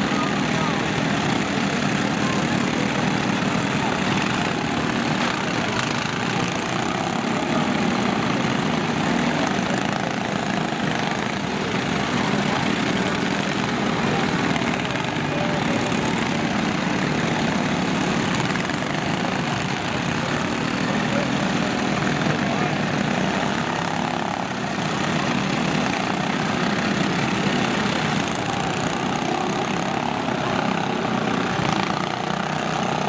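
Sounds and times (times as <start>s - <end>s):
lawn tractor engines running: 0.0s - 33.0s.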